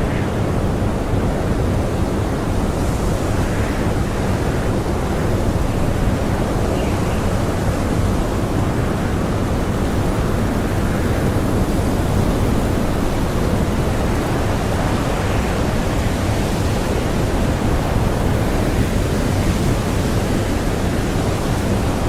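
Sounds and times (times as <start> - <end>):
strong blizzard wind: 0.0 - 22.0.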